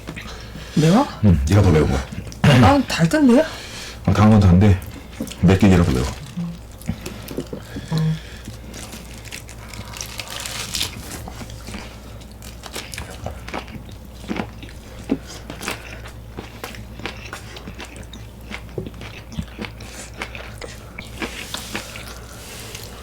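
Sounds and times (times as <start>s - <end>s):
chewing and crunching food: 0.0s - 3.2s, 4.1s - 23.0s.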